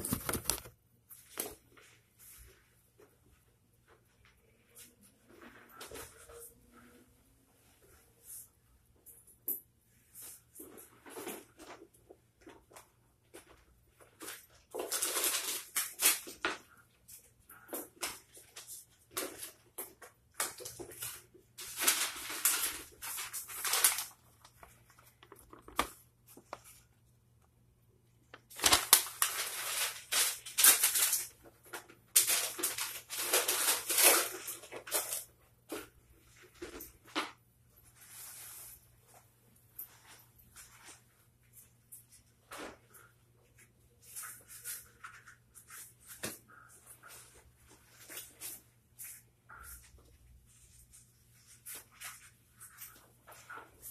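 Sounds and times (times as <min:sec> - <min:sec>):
paper and clothing rustling: 0:00.0 - 0:03.1, 0:10.0 - 0:27.1, 0:28.3 - 0:37.0, 0:37.8 - 0:53.9.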